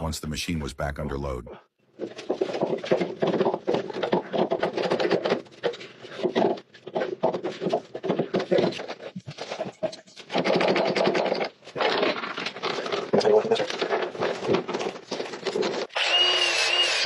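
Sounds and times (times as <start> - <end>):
scraping and rubbing: 1.9 - 15.9.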